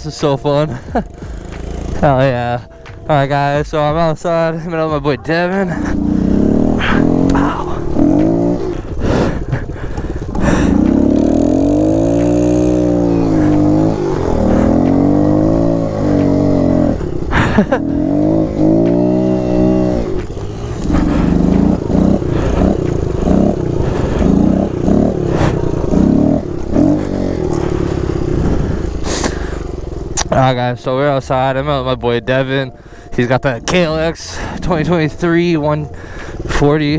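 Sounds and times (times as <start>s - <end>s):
pit bike engine revving: 0.0s - 36.9s.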